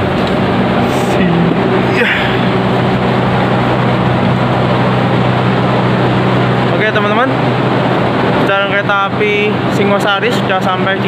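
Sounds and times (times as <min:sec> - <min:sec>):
train diesel engine humming: 0:00.0 - 0:10.0.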